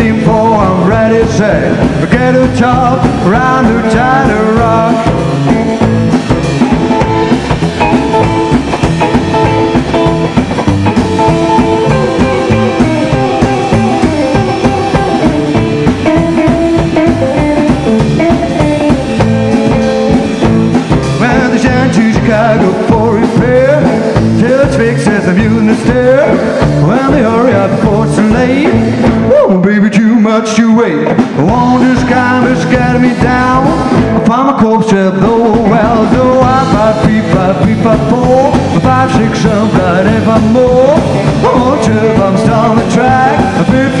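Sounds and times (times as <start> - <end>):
electric guitar lead: 0.0 - 29.8, 30.4 - 44.0
drum kit: 0.0 - 44.0
rockabilly band playing: 0.0 - 44.0
upright bass: 0.0 - 44.0.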